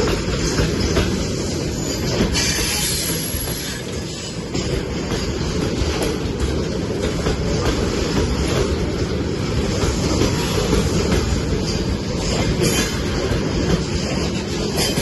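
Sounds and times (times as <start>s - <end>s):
freight train wheels rumbling: 0.0s - 15.0s
train wheels clacking: 0.0s - 15.0s.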